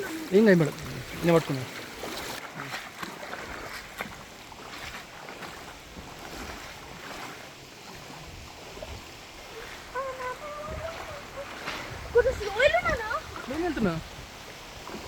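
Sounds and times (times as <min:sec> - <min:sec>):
people wading through water: 0:00.0 - 0:15.0
river water running over rocks: 0:00.0 - 0:15.0.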